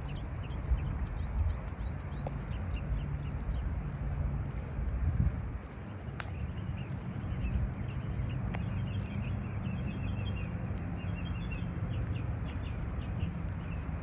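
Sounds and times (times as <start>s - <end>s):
small birds chirping: 0.0s - 14.0s
walking rumble: 0.0s - 14.0s
wind on microphone: 0.0s - 14.0s.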